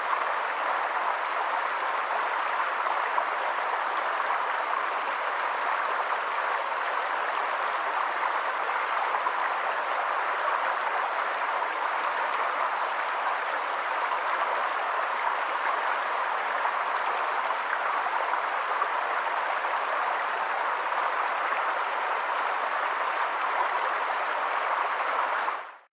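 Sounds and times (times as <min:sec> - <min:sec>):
water rushing: 0:00.0 - 0:25.9.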